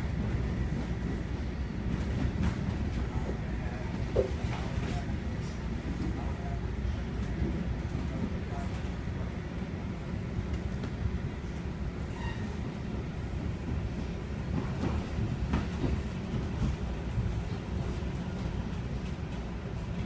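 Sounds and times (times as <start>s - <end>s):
train coach rumbling on track: 0.0s - 20.0s.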